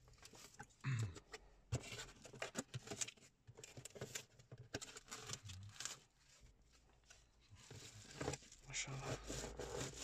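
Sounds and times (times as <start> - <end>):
cardboard rustling and scraping: 1.7 - 10.0.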